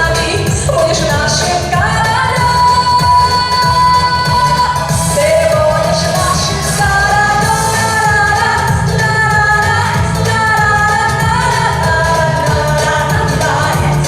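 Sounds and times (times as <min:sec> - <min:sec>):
pop song with singing: 0:00.0 - 0:14.0
pulsing bass: 0:00.0 - 0:14.0.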